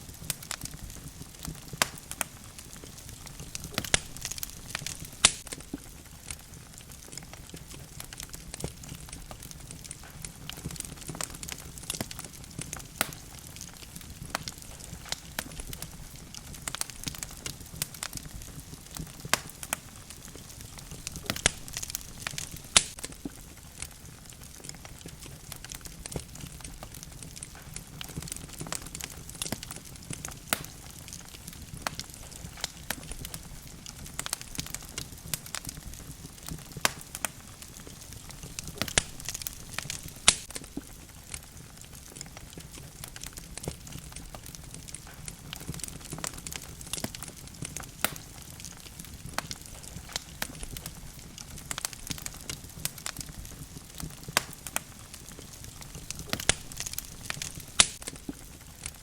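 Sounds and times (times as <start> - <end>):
logs crackling and popping: 0.0 - 59.0
low rush of flames: 0.0 - 59.0.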